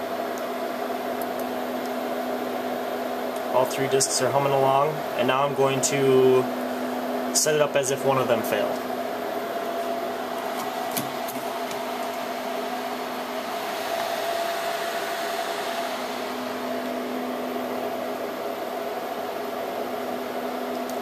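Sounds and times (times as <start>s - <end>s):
server cooling fans whirring: 0.0s - 21.0s.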